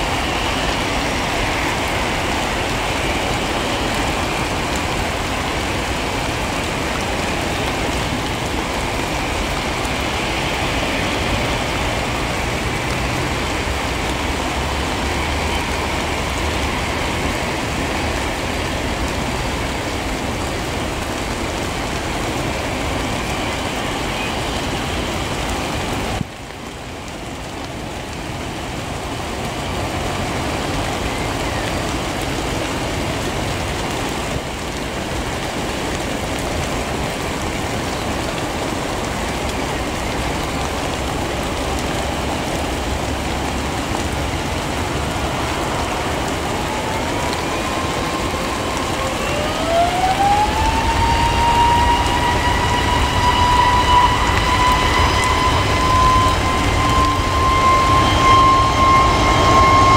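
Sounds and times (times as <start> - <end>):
heavy rain hiss: 0.0 - 59.9
jet engines at low power: 0.0 - 59.9.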